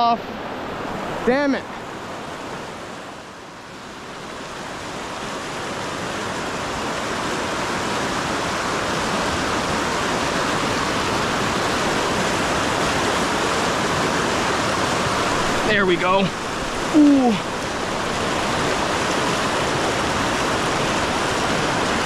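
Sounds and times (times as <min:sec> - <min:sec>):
rushing river current: 0:00.0 - 0:22.0.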